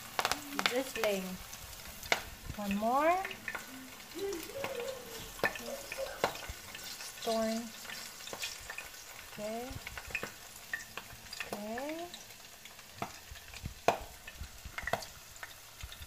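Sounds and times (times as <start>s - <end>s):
deep-frying sizzle with pops: 0.0s - 16.0s.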